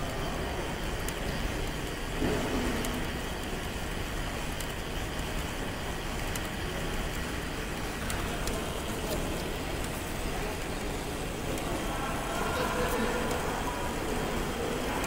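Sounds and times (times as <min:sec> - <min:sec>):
crowd hubbub in hall: 0:00.0 - 0:15.0
faint ticking: 0:02.8 - 0:15.0.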